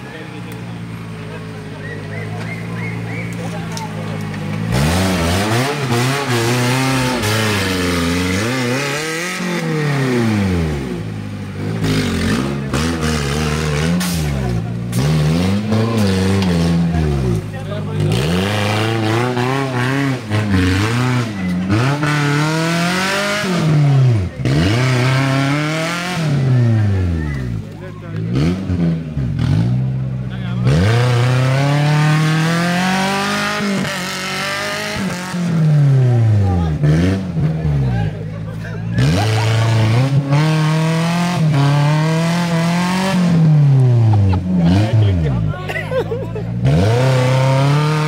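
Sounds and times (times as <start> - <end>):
off-road vehicle engine revving: 0.0 - 48.0.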